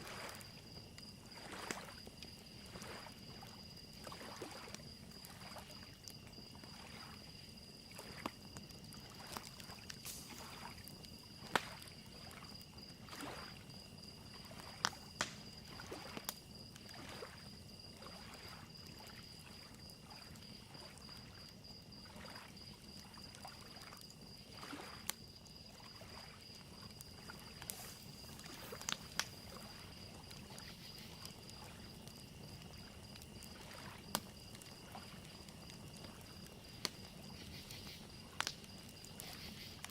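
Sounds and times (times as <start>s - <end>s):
water lapping against shoreline: 0.0s - 39.8s
crickets chirping: 0.0s - 39.9s
wood fire crackling and popping: 0.0s - 39.9s.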